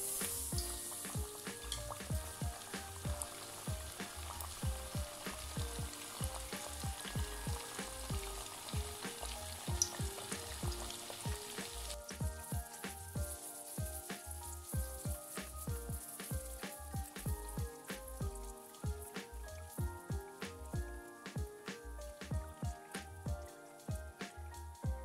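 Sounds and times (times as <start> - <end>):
dough sizzling in hot oil: 0.0 - 24.4
background music: 0.0 - 25.0.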